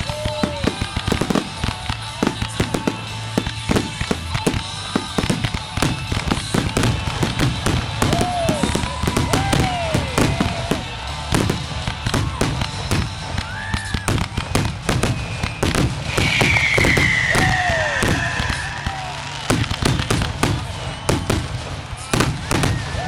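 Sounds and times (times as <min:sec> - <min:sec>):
fireworks bursting: 0:00.0 - 0:23.0
whistling firework tones: 0:00.0 - 0:23.0.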